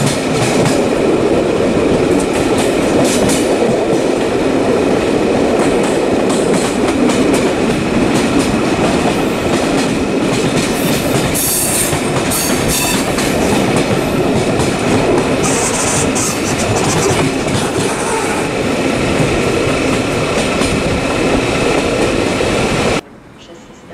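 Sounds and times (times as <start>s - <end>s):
train running on rails: 0.0s - 23.9s.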